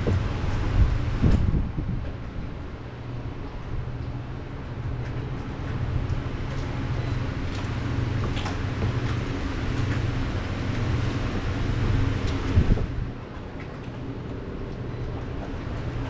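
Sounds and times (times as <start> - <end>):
engine running low drone: 0.0 - 16.0.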